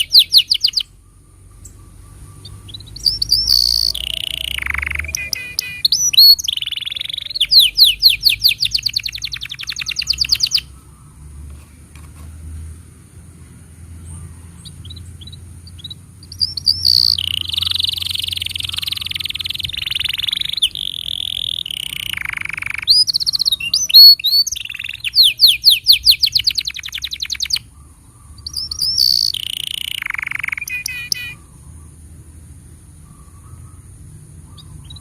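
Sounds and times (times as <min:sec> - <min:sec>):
canary singing: 0:00.0 - 0:11.6, 0:13.8 - 0:32.3, 0:32.9 - 0:35.0.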